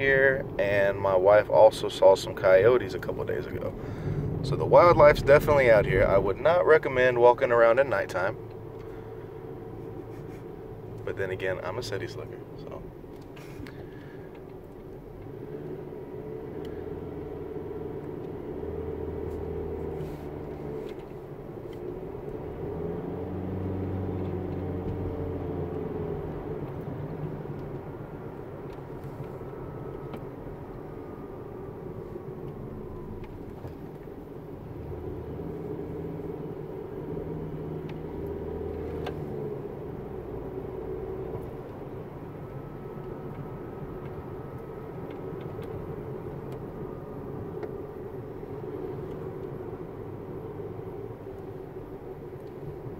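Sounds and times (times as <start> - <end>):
car engine: 0.0 - 52.9
tyre noise on road: 0.0 - 52.9.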